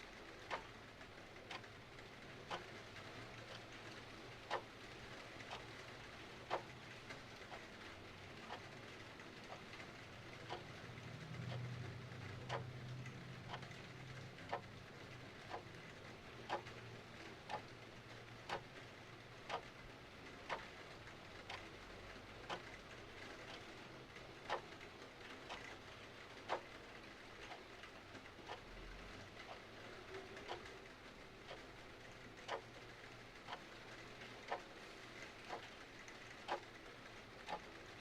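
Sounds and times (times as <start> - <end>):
clock ticking: 0.2 - 38.0.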